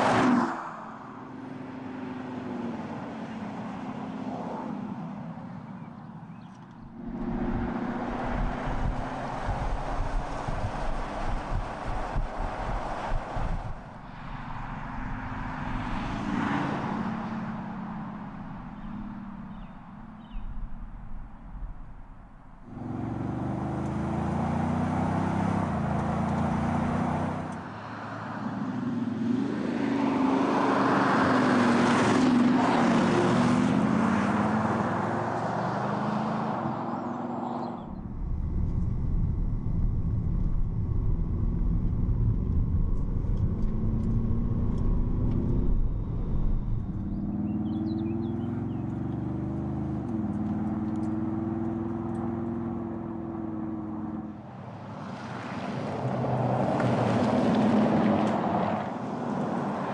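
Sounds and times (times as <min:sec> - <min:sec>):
car engine and exhaust: 0:00.0 - 0:59.9
road noise: 0:00.0 - 0:59.9.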